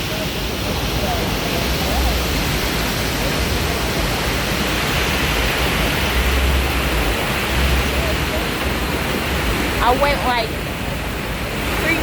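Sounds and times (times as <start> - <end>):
steady rushing noise: 0.0 - 12.0
low rumble: 0.4 - 12.0.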